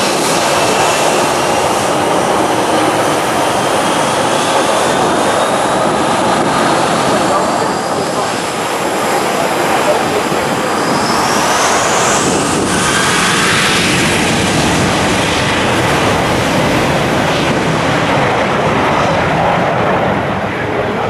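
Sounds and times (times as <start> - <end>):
jet engines spooling up: 0.0 - 21.0.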